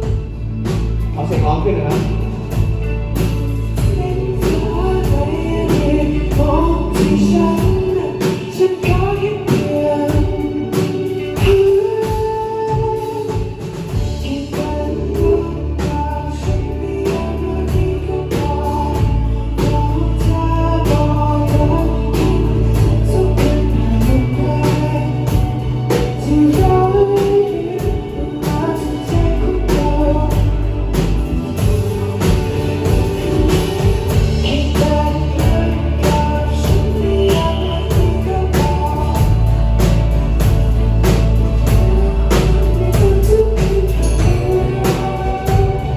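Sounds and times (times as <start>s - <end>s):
heavy bass line: 0.0s - 13.0s, 13.6s - 45.9s
person singing: 0.0s - 45.9s
steady drum beat: 0.0s - 45.9s.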